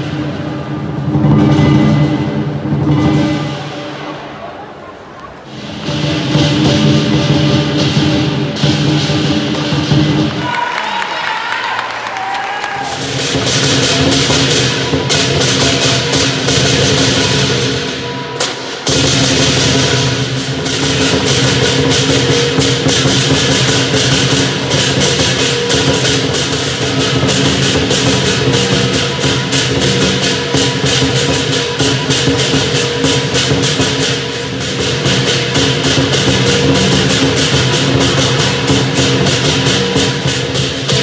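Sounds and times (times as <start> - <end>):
cymbals clashing: 0.0 - 41.0
drum beating: 0.0 - 41.0.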